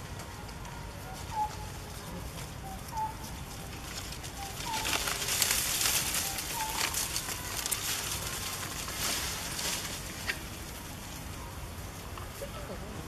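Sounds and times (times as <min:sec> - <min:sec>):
monkeys rustling in dry leaves: 0:00.0 - 0:13.0.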